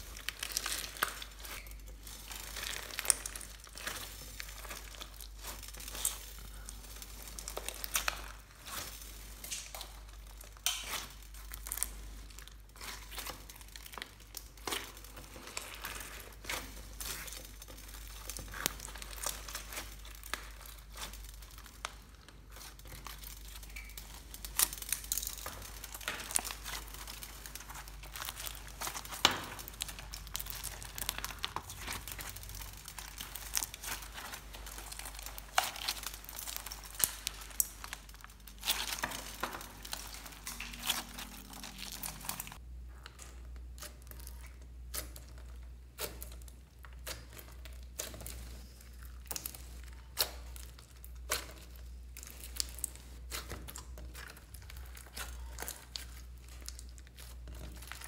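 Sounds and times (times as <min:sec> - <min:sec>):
slime sticky clicks and crackles: 0:00.2 - 0:58.0.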